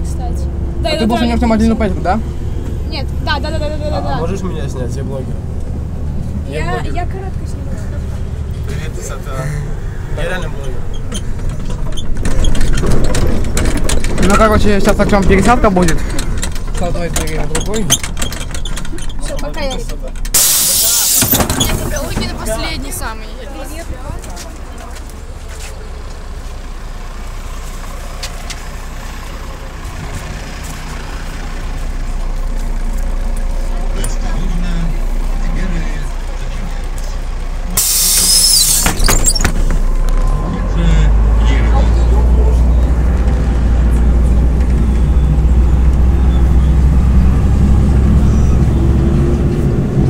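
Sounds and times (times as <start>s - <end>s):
bus engine idling: 0.0s - 50.0s.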